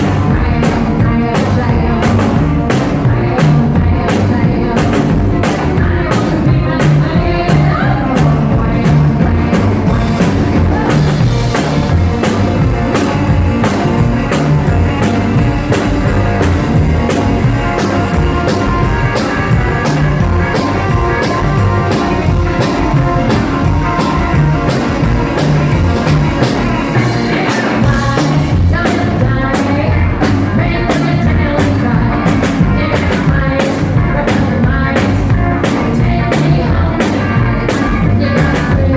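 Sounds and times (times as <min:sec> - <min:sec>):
drum kit beat: 0:00.0 - 0:38.9
live rockabilly band playing: 0:00.0 - 0:38.9.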